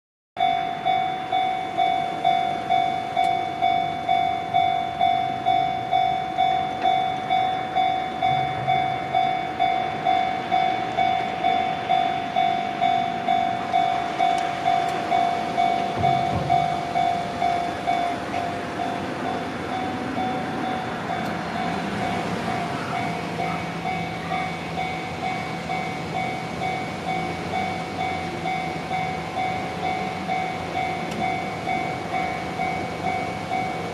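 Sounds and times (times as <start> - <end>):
electric train running: 0.4 - 33.9
level crossing warning bell: 0.4 - 33.9.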